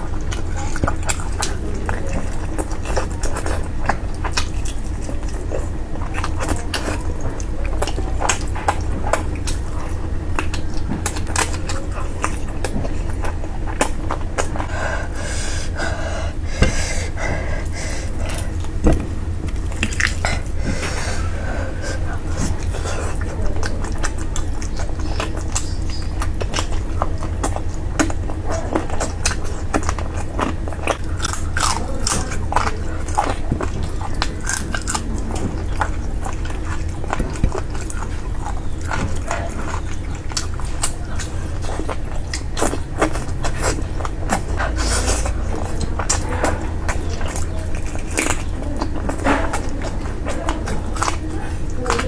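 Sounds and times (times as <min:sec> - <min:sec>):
person chewing food: 0:00.0 - 0:52.0
steady low hum: 0:00.0 - 0:52.0
wet mouth clicks: 0:07.7 - 0:52.0.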